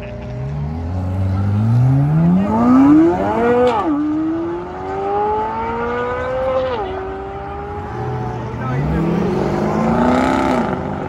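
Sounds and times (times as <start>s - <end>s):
sports car engine accelerating: 0.0s - 11.0s.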